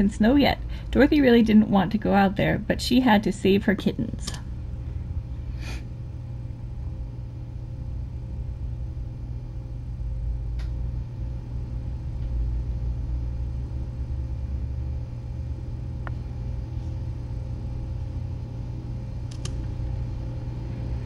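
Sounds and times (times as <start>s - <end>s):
faint electrical hum: 0.0s - 21.0s
steady low rumble: 0.0s - 21.0s.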